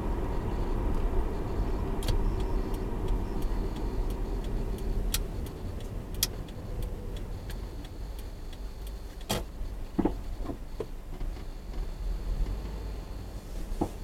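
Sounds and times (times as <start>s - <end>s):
regular ticking: 0.1s - 13.3s.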